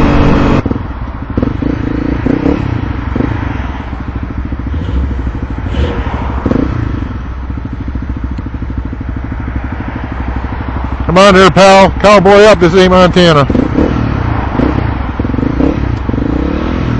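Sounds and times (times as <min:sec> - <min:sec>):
motorcycle engine idling: 0:00.6 - 0:16.3.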